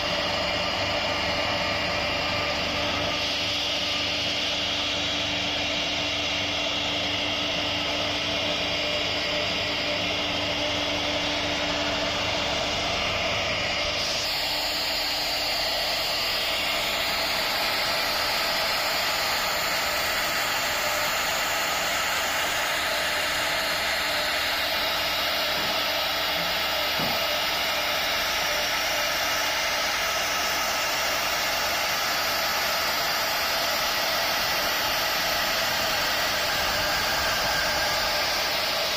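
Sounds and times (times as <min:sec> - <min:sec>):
router spindle high whine: 0:00.0 - 0:38.9.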